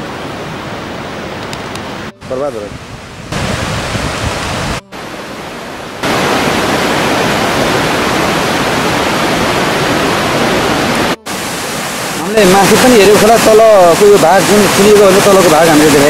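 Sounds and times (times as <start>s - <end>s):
steady outdoor rushing hiss: 0.0s - 16.0s.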